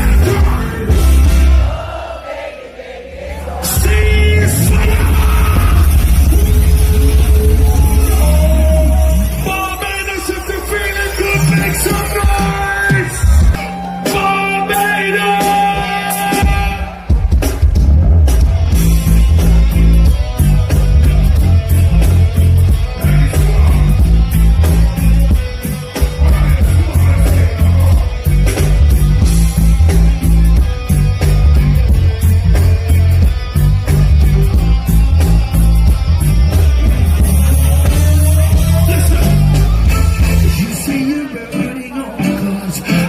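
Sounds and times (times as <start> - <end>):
heavy pulsing bass line: 0.0 - 1.8, 3.6 - 41.1
steady drums: 0.0 - 2.0, 3.2 - 41.1
live reggae band: 0.0 - 43.0
electric guitar: 4.4 - 9.4, 12.3 - 43.0.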